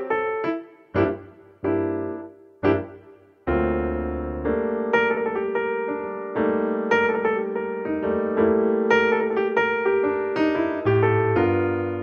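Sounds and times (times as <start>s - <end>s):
piano melody over chords: 0.0s - 12.0s.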